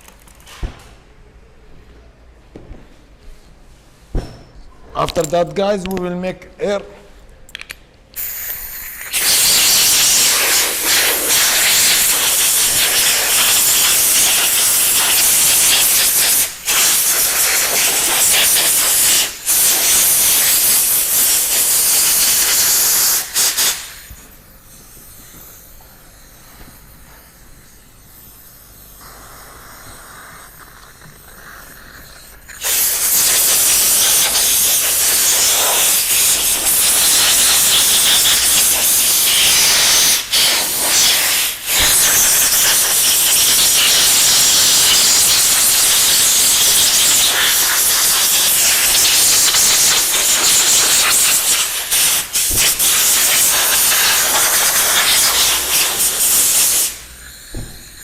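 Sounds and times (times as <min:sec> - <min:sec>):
air blow gun hissing: 0:08.2 - 0:58.0.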